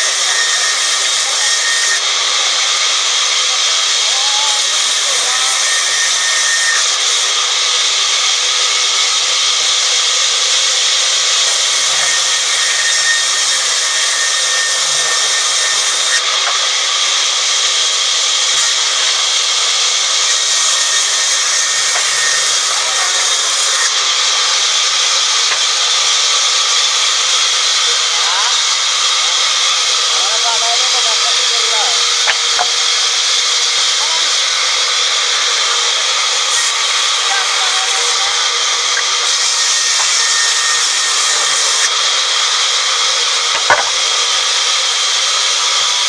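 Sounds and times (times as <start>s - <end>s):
band saw cutting log: 0.0s - 46.0s.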